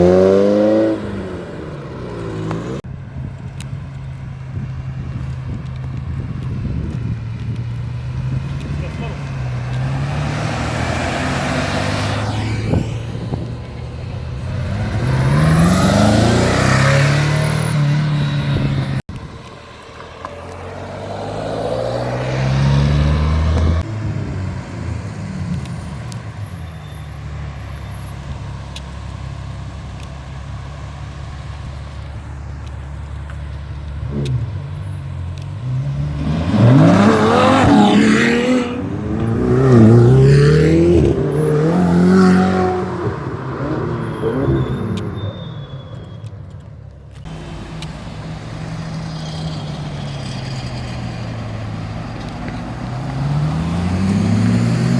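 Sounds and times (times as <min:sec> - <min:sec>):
engines running at low revs: 0:00.0 - 0:54.9
sports car engines accelerating: 0:00.0 - 0:54.9.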